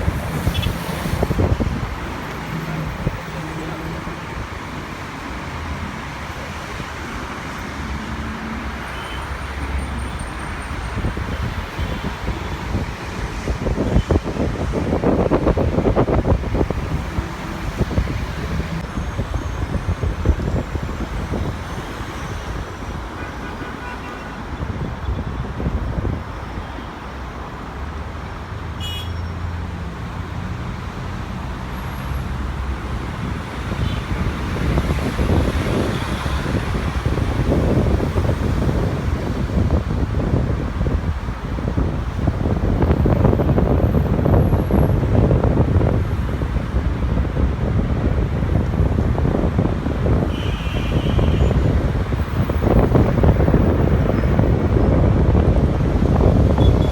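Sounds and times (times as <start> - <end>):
wind buffeting microphone: 0.0 - 8.0, 10.0 - 23.2, 24.4 - 26.8, 32.5 - 56.9.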